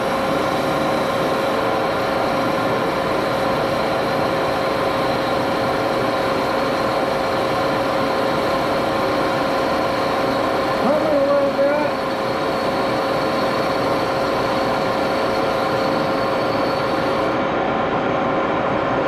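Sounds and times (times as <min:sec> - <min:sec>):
lathe running: 0:00.0 - 0:17.6.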